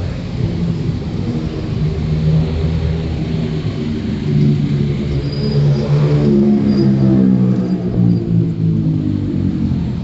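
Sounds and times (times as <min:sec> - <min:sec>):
traffic engines running: 0:00.0 - 0:10.0.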